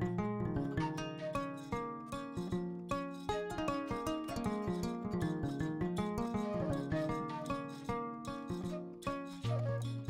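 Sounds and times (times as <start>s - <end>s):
plucked string melody: 0.0s - 10.0s.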